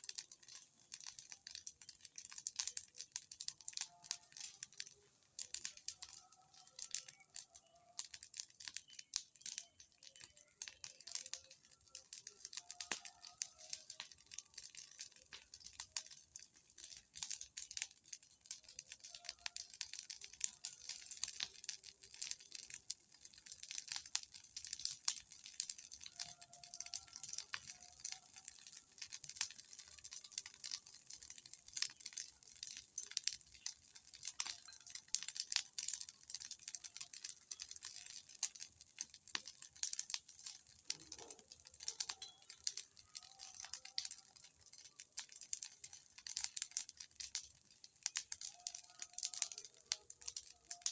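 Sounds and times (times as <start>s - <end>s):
bonfire crackling: 0.0s - 50.9s.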